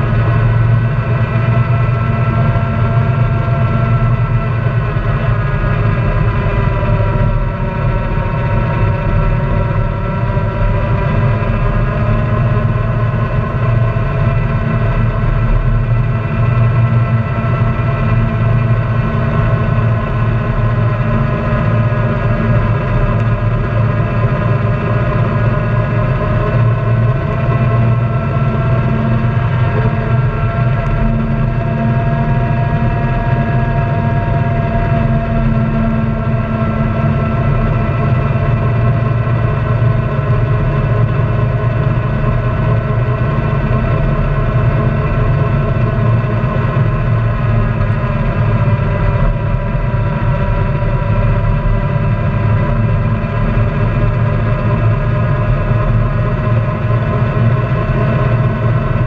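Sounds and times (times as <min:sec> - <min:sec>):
single-cylinder engine running: 0:00.0 - 0:59.0.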